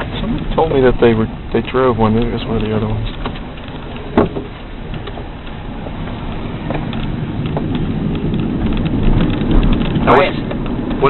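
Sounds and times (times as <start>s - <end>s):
tyre and road rumble: 0.0s - 11.0s.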